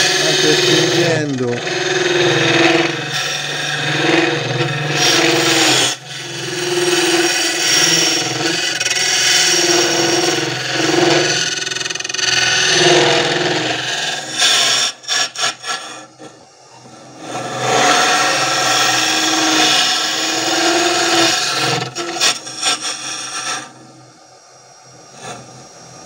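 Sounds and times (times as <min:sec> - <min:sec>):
lathe tool scraping wood: 0:00.0 - 0:23.9, 0:25.0 - 0:26.0
lathe humming: 0:00.0 - 0:26.0.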